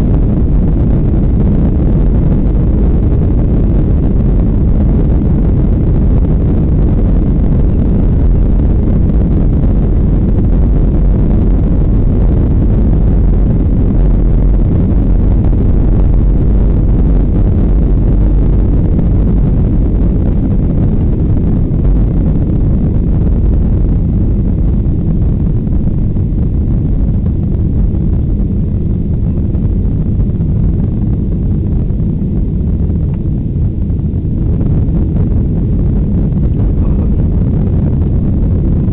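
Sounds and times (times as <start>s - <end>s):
airflow noise: 0.0s - 38.9s
jet engine rumble in cabin: 0.0s - 38.9s.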